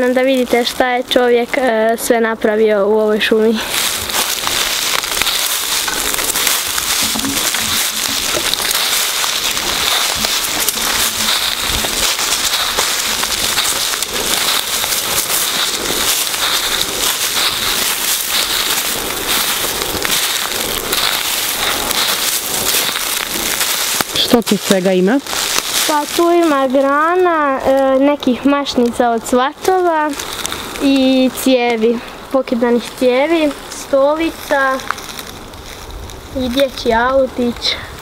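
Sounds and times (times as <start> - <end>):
footsteps crunching through dry leaves: 3.0 - 37.0.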